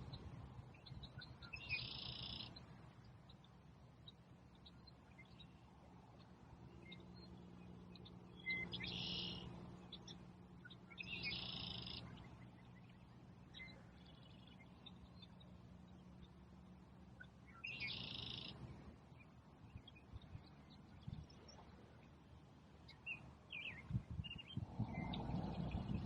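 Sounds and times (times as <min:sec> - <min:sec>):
faint bird chirps: 0:00.0 - 0:26.0
songbirds trilling: 0:00.0 - 0:26.0.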